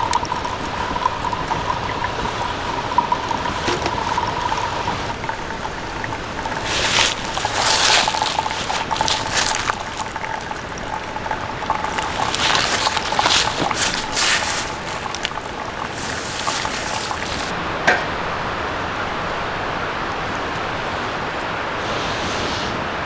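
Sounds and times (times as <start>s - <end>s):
liquid surging: 0.0s - 22.0s
steady hiss: 0.0s - 23.0s.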